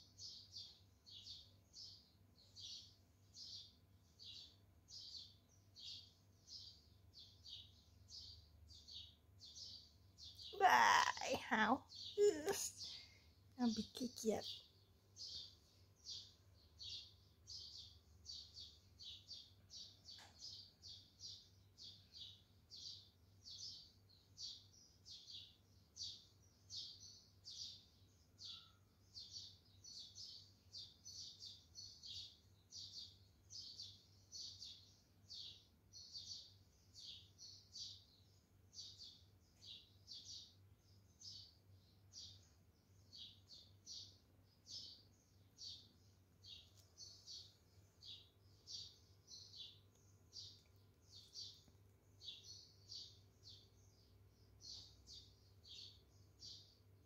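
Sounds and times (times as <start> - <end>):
faint bird chirping: 0.0 - 57.0.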